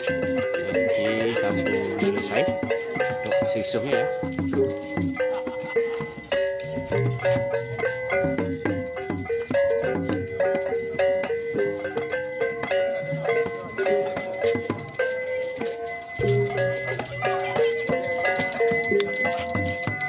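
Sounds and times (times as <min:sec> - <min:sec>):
gamelan metallophones melody: 0:00.0 - 0:20.0.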